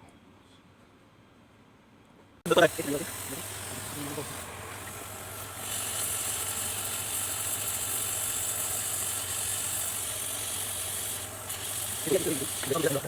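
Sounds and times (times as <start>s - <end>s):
hot air tool hissing: 2.5s - 13.0s.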